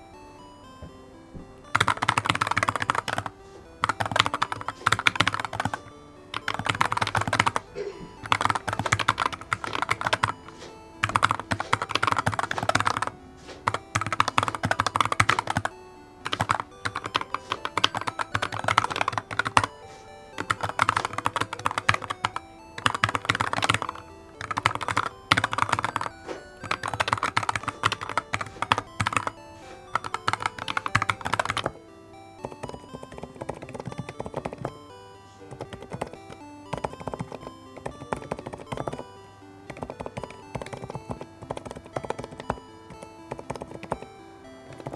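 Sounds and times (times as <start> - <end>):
keyboard typing: 0.0 - 44.9
soft background music: 0.0 - 44.9.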